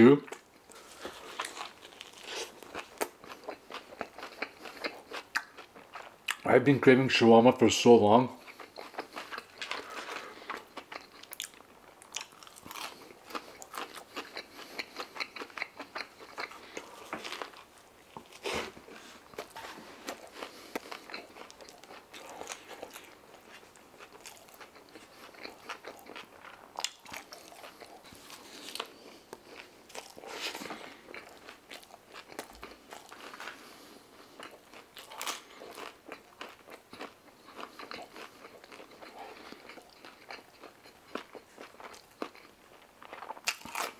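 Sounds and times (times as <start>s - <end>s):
person chewing and smacking: 0.2s - 6.5s, 8.4s - 43.9s.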